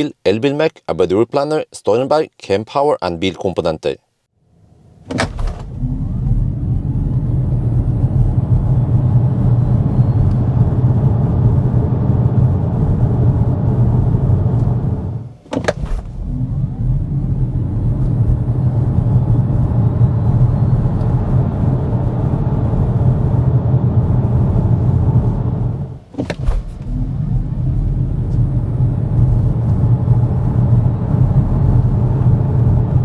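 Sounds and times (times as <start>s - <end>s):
road and tyre rumble: 4.8s - 33.0s.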